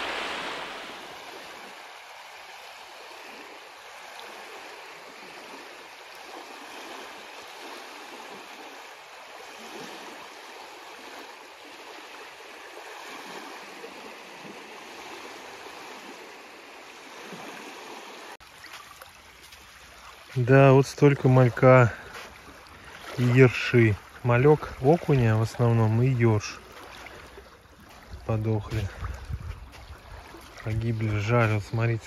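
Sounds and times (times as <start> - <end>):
small waves washing on shore: 0.0 - 32.0.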